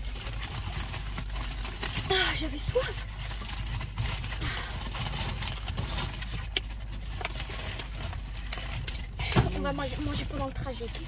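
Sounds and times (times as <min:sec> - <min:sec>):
car engine hum in cabin: 0:00.0 - 0:11.0.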